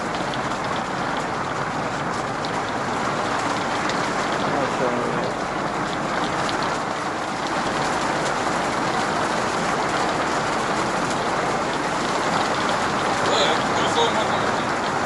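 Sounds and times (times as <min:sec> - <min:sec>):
heavy rain on roof: 0:00.0 - 0:15.0.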